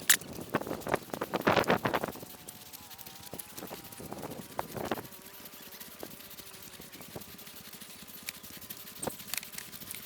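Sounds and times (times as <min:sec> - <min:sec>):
handcart rattling over ground: 0:00.0 - 0:10.0.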